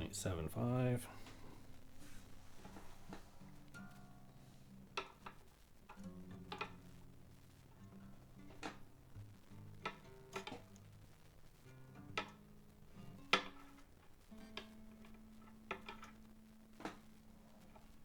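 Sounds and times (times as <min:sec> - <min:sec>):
guitar string ringing: 0:00.0 - 0:17.8
clicks and taps on guitar strings: 0:00.3 - 0:18.0.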